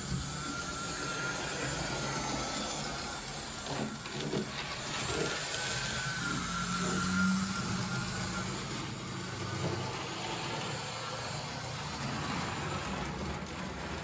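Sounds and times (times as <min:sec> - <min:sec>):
toy train motor whine: 0:00.0 - 0:14.0.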